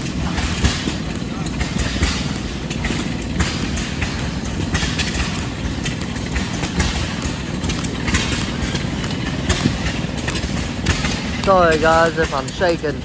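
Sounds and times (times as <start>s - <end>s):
engines rumbling: 0.0s - 13.0s.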